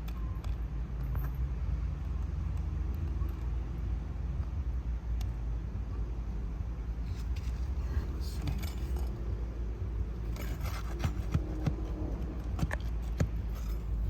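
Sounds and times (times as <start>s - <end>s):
low rumble outdoors: 0.0s - 14.0s.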